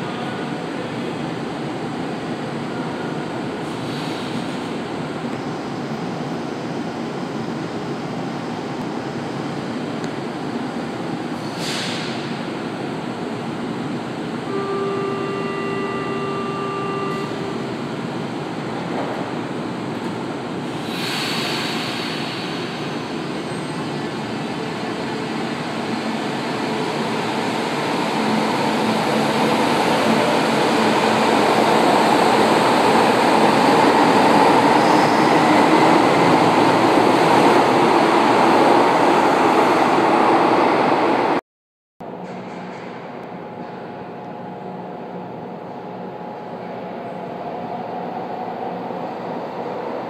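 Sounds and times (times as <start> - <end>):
metro train running: 0.0 - 41.4, 42.0 - 50.0.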